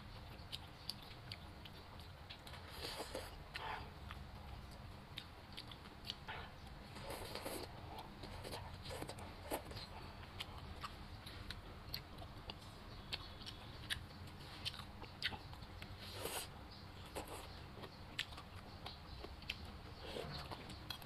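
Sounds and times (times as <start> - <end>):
person chewing: 0.1 - 21.0.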